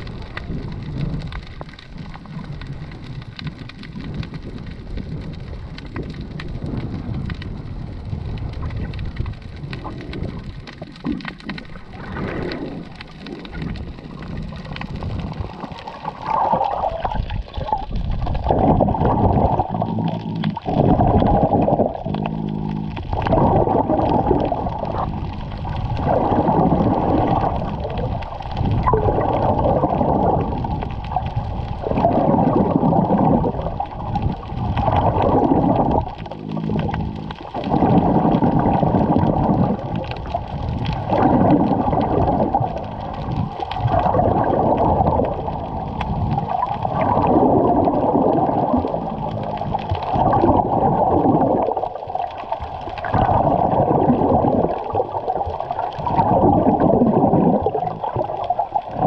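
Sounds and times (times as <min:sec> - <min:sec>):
muffled underwater rush: 0:00.0 - 0:59.0.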